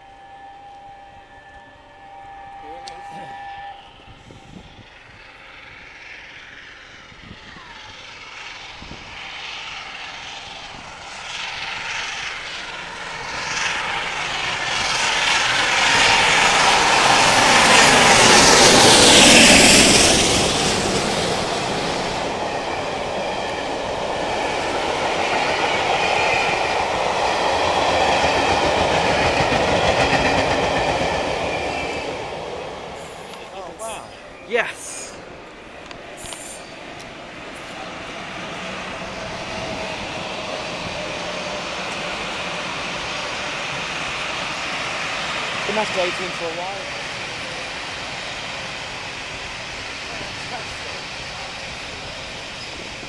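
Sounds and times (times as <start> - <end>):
steam locomotive passing at speed: 0.0 - 53.0.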